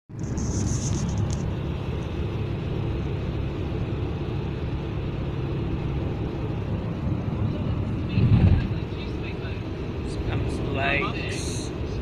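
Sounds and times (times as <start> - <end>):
van road and engine drone: 0.1 - 12.0.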